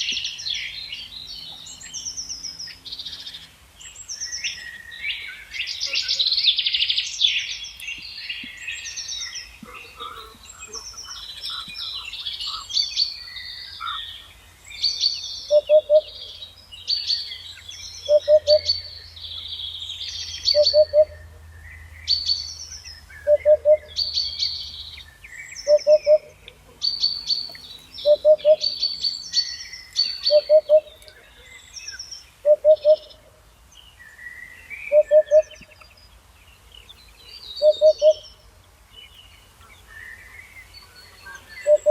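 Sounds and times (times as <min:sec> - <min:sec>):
songbirds twittering and chirping: 0:00.0 - 0:41.9.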